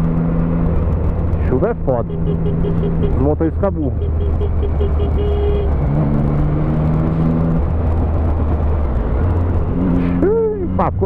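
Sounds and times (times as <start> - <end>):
motorcycle engine drone: 0.0 - 11.0.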